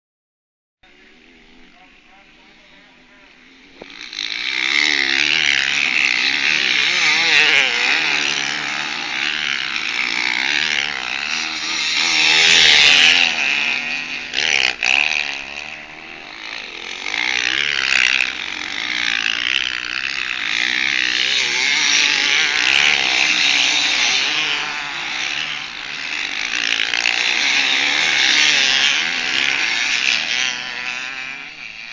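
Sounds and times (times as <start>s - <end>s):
motocross bike engines revving: 0.8s - 31.9s.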